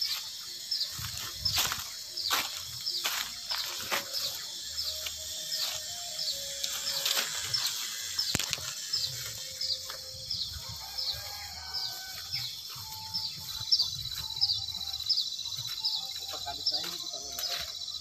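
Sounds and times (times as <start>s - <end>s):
footsteps on muddy path: 0.0s - 18.0s
high falling chirp: 0.0s - 18.0s
high insect buzz: 0.0s - 18.0s.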